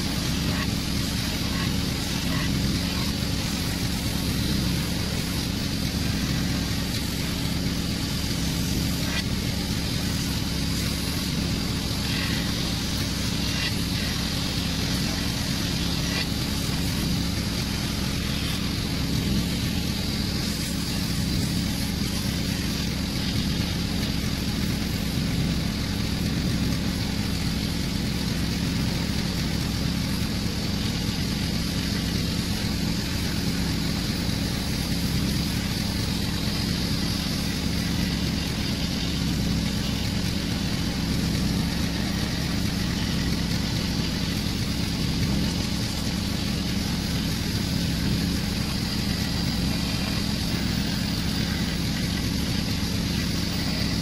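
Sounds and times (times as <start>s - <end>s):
belt sander sanding wood: 0.0s - 54.0s.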